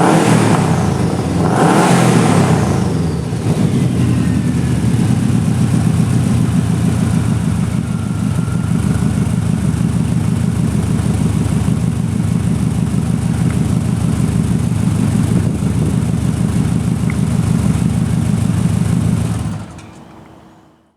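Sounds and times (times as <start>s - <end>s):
car engine idling: 0.0s - 20.4s.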